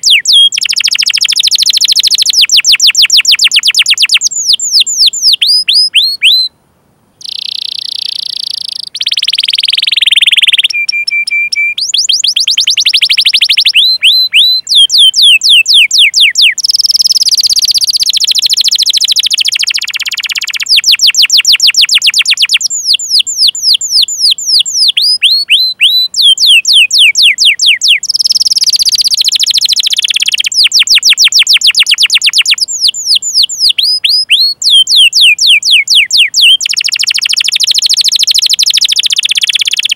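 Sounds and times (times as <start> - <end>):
canary singing: 0.0 - 6.6, 7.2 - 39.9.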